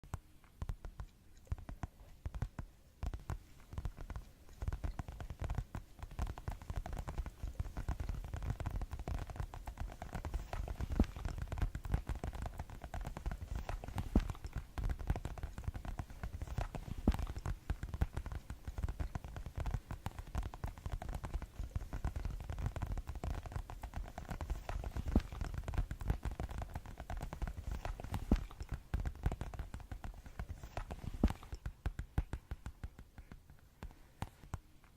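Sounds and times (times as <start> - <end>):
fingers tapping rapidly on objects: 0.0 - 34.9.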